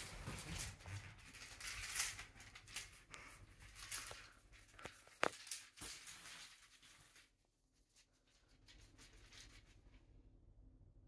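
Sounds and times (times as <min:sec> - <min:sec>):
rustling and scratching on bedding: 0:00.0 - 0:09.9.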